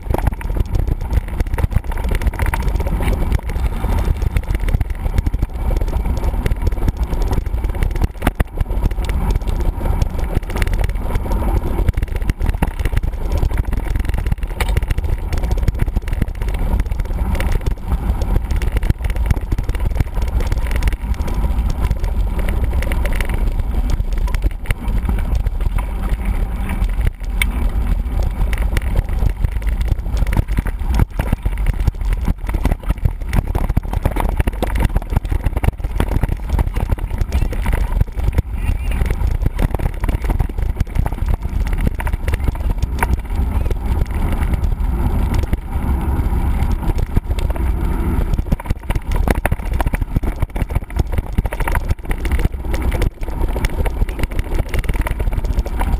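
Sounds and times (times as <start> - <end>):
bike rattling and clicking: 0.0 - 55.9
bike rolling over rough ground: 0.0 - 55.9.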